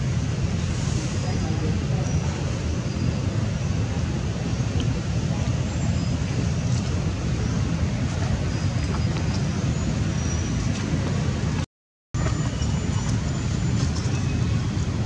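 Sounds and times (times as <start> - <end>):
wind rumbling on microphone: 0.0 - 11.6, 12.2 - 15.0.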